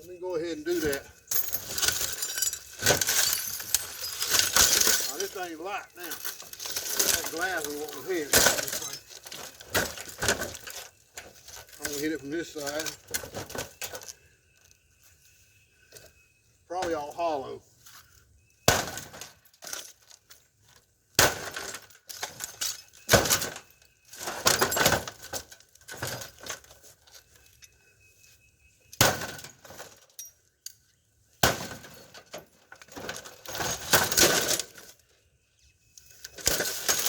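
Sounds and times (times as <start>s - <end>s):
broken glass and plastic clattering: 0.4s - 14.7s, 18.6s - 27.8s, 28.8s - 35.1s, 35.9s - 37.0s.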